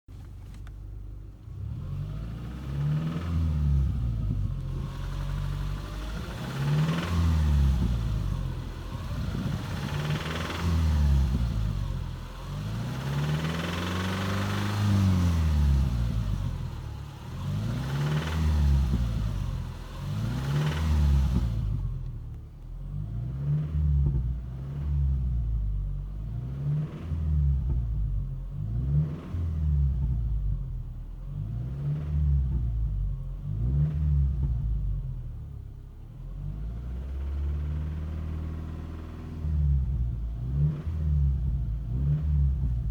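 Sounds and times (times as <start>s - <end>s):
car engine revving: 1.4s - 42.9s.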